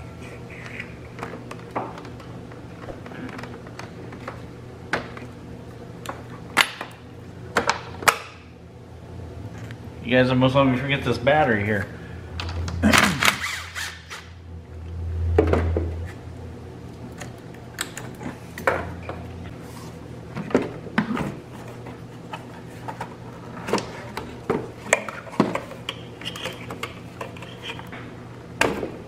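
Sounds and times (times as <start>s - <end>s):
low hum: 0.0s - 24.4s.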